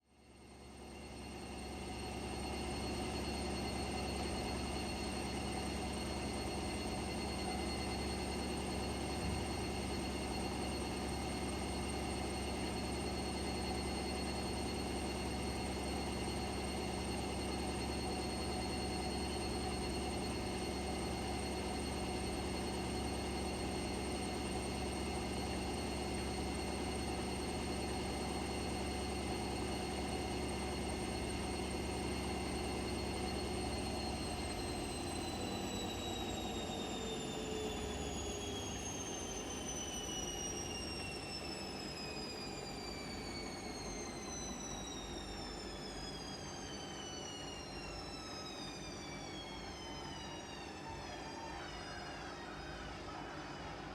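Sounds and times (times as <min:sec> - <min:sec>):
washing machine running: 0:00.5 - 0:53.9.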